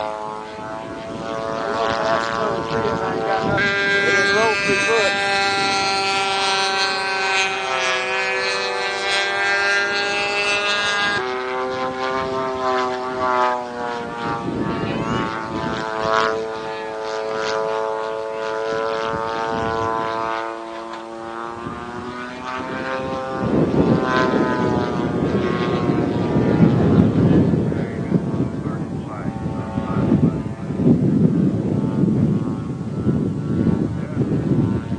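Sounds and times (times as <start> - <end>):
model aircraft engine droning: 0.0 - 34.9.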